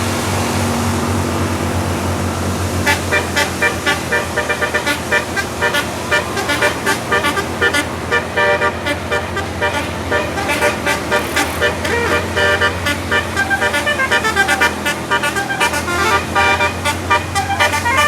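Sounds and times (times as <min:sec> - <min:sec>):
musical air horn melody: 0:02.7 - 0:18.0.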